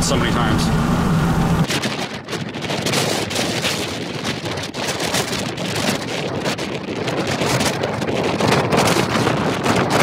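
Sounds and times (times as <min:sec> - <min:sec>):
storm wind on microphone: 0:00.0 - 0:10.0.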